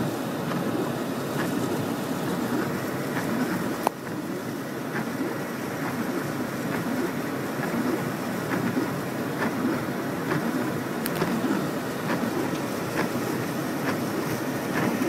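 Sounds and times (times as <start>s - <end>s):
car tyre noise on wet road: 0.0s - 15.0s.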